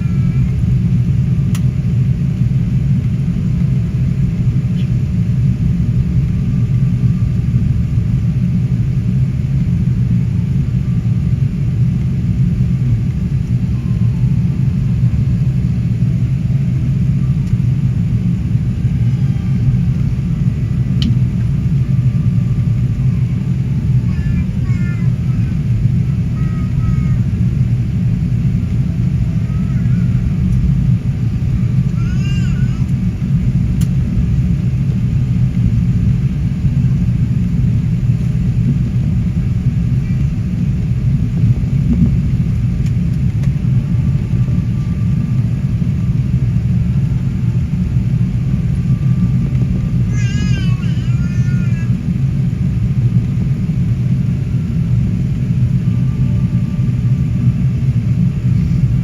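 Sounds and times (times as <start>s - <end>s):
airliner engines rumbling: 0.0s - 59.0s.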